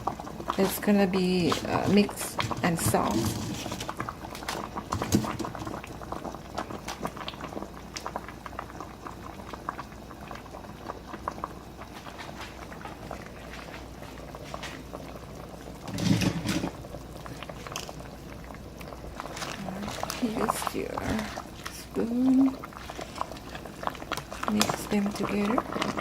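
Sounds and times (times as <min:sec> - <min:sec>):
pot of broth bubbling: 0:00.0 - 0:26.0.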